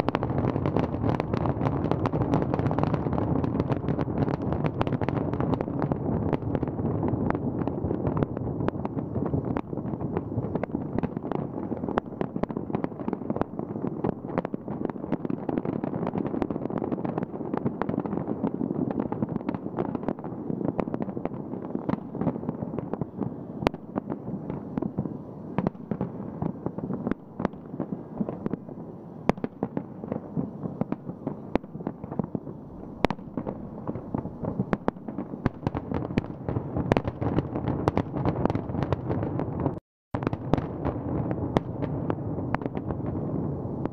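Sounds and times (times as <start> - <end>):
fireworks crackling and banging: 0.0 - 43.9
sharp firework cracks: 0.0 - 43.9.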